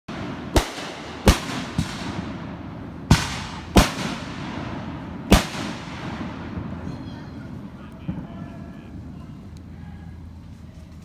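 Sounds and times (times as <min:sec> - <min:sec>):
fireworks loud bangs: 0:00.1 - 0:09.1.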